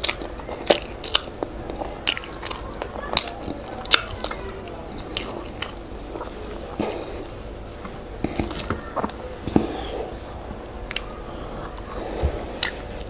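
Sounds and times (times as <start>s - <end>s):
person chewing with wet smacks: 0.0s - 13.0s.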